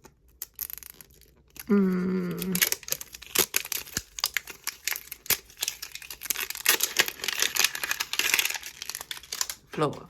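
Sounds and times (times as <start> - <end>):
plastic packaging crinkling and tearing: 0.0 - 10.0.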